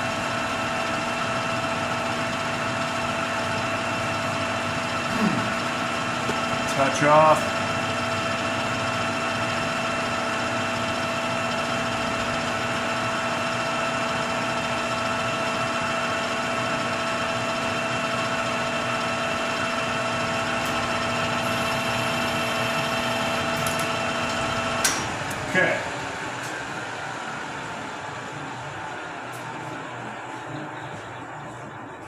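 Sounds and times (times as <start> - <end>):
metal lathe humming and whining: 0.0 - 32.0.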